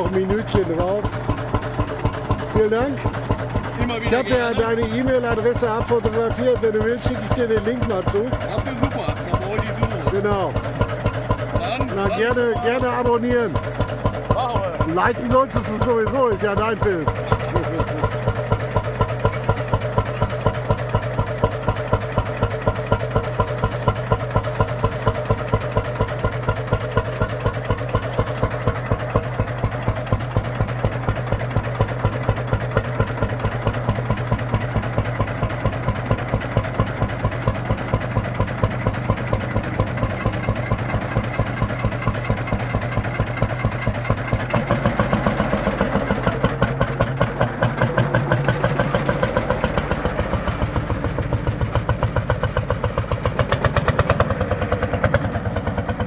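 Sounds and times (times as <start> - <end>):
single-cylinder engine idling: 0.0 - 56.0.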